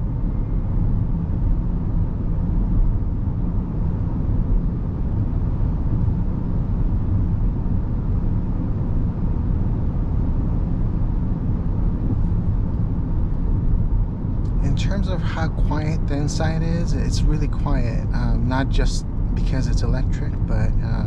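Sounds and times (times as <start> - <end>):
faint drivetrain hum: 0.0 - 21.0
road and tyre rumble: 0.0 - 21.0.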